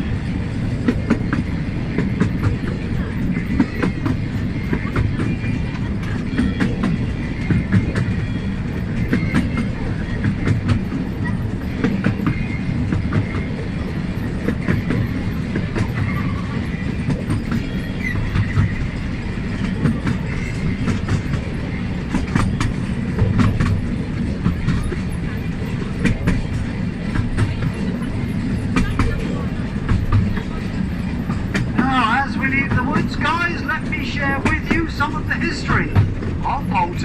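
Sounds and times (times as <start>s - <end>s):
train rumbling on track: 0.0s - 37.0s
wheels clacking on rails: 0.0s - 37.0s.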